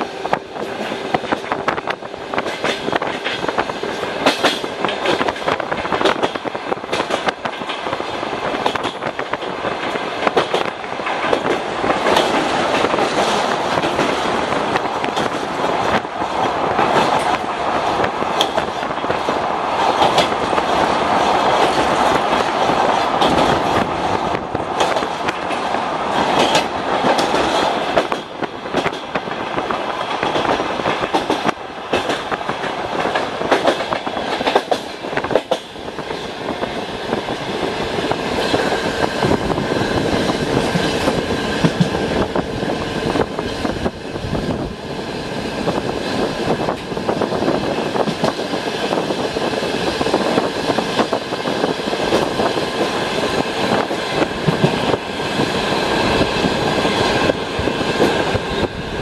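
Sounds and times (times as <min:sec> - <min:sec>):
wheels clacking over rail joints: 0:00.0 - 0:44.8, 0:45.6 - 0:59.0
train wheels rumbling on rails: 0:00.0 - 0:59.0.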